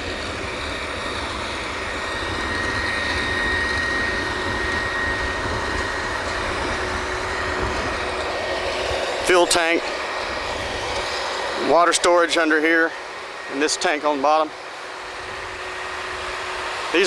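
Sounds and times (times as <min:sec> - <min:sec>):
drilling rig machinery drone: 0:00.0 - 0:17.0
thin high whine: 0:00.0 - 0:17.0.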